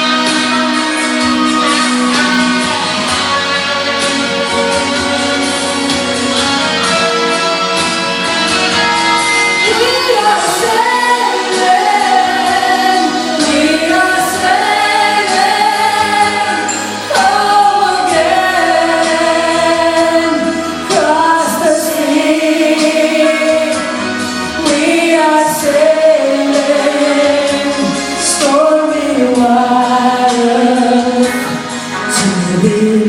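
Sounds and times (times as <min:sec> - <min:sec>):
choir singing: 0:00.0 - 0:33.0
held musical accompaniment: 0:00.0 - 0:33.0.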